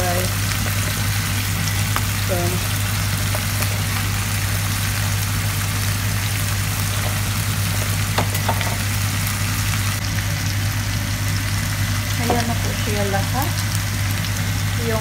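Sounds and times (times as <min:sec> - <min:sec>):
food frying in a wok: 0:00.0 - 0:15.0
steady low hum: 0:00.0 - 0:15.0.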